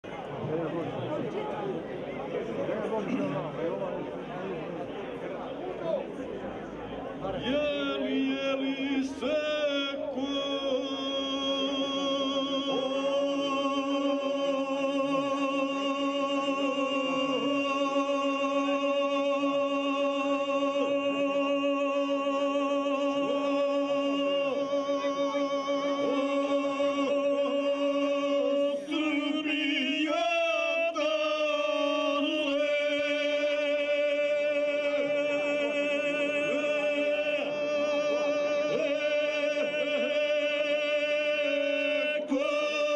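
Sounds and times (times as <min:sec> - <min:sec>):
two men singing unaccompanied: 0:07.2 - 0:42.9.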